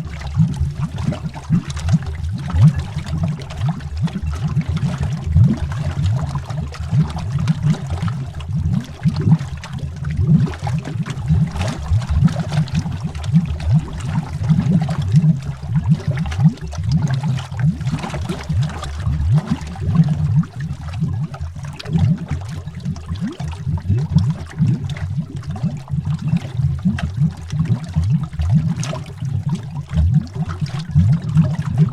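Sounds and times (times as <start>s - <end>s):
underwater bubbling: 0.0s - 31.9s.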